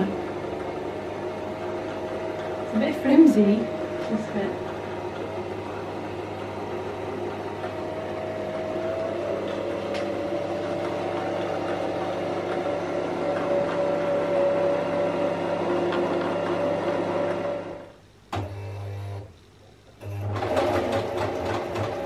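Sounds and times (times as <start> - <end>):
sewing machine motor whine: 0.0 - 19.3, 20.0 - 22.0.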